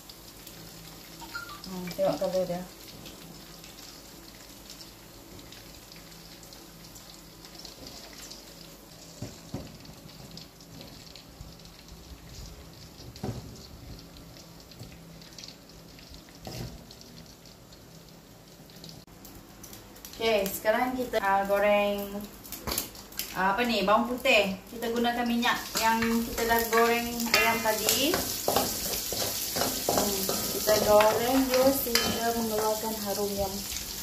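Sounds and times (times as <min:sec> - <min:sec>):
chicken frying in hot oil: 0:00.0 - 0:34.0.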